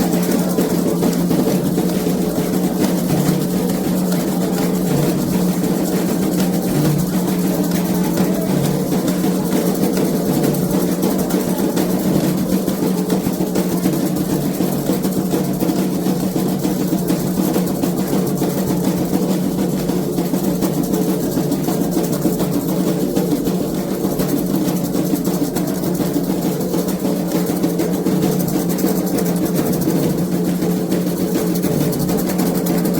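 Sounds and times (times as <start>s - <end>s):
hand drums playing fast rhythm: 0.0s - 32.9s.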